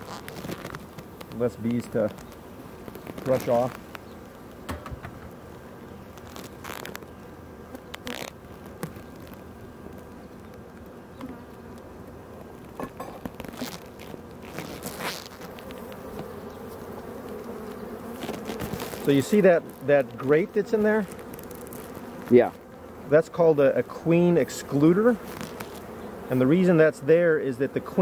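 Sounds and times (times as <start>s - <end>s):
honey bees buzzing: 0.0s - 28.0s.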